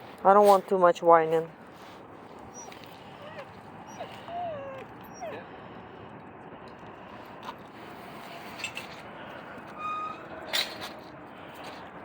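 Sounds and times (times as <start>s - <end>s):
faint traffic: 0.0s - 12.0s.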